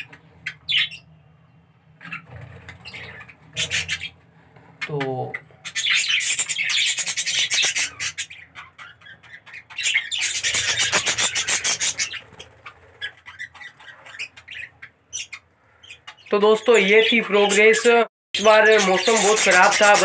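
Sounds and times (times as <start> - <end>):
budgerigars squawking and chattering: 0.0 - 1.1, 2.0 - 20.0.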